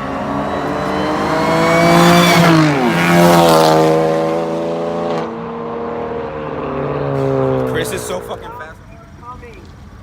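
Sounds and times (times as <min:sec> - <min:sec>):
car passing by: 0:00.0 - 0:08.7
car engines at full throttle: 0:00.0 - 0:10.0.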